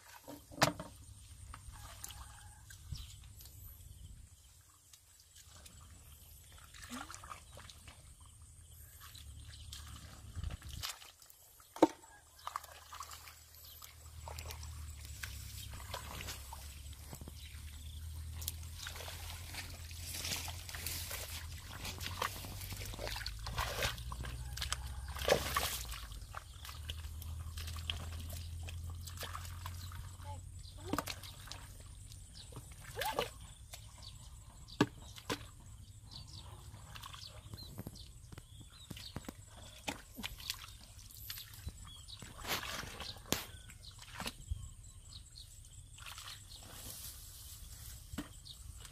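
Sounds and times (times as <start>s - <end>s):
squelches in mud: 0.0s - 48.9s
water sloshing and splashing: 0.0s - 48.9s.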